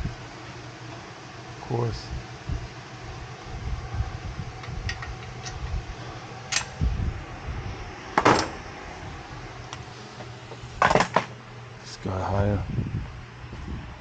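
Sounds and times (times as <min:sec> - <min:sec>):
fan hum: 0:00.0 - 0:14.0.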